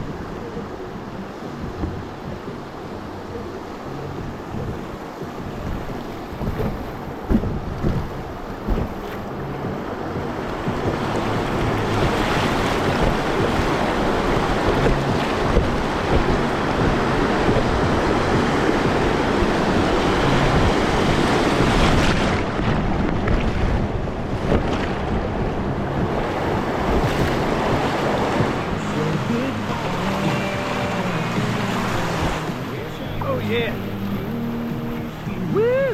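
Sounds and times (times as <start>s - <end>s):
river rapids rushing: 0.0s - 23.0s, 23.6s - 35.9s
wind buffeting microphone: 0.0s - 35.9s.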